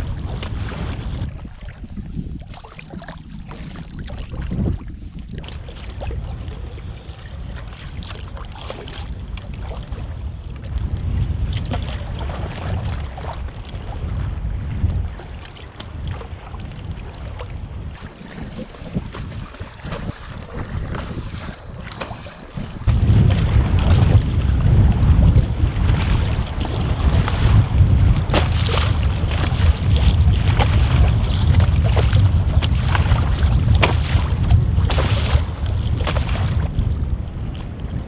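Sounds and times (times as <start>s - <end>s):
paddle strokes: 0.0s - 38.0s
water lapping against canoe hull: 0.0s - 38.0s
wind on microphone: 0.0s - 38.0s.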